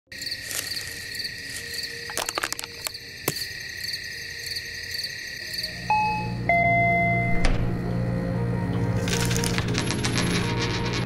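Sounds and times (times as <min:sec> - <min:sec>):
crickets chirping: 0:00.1 - 0:09.4.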